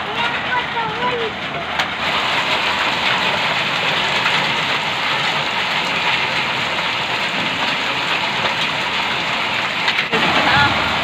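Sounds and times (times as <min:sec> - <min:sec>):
heavy rain and hail: 0:00.0 - 0:11.0.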